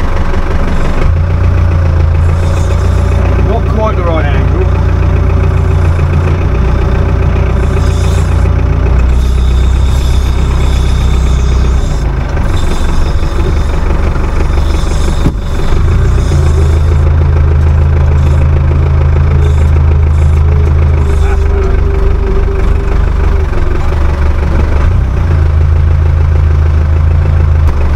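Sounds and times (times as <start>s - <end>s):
tractor engine running: 0.0s - 27.9s.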